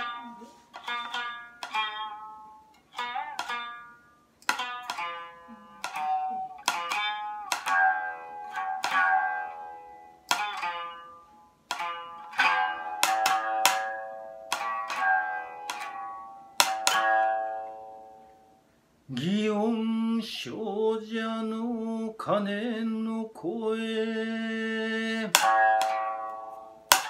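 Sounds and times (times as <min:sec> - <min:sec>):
lute plucked with plectrum: 0:00.0 - 0:18.6, 0:23.8 - 0:27.0.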